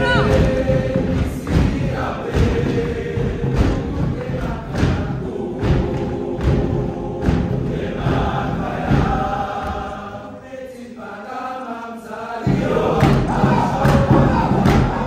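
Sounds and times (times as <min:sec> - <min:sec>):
rhythmic thumps: 0:00.0 - 0:10.4, 0:12.4 - 0:15.0
choir chanting: 0:00.0 - 0:15.0.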